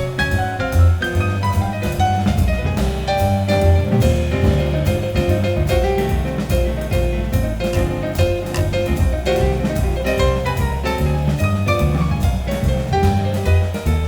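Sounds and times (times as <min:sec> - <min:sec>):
deep bass line: 0:00.0 - 0:14.0
drum kit with cymbals: 0:00.0 - 0:14.0
jazz piano: 0:00.0 - 0:14.0.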